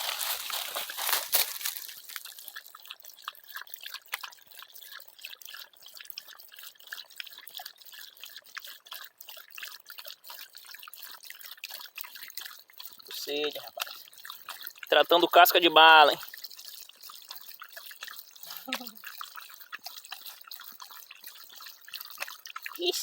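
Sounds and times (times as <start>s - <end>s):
dog lapping water: 0.0s - 23.0s.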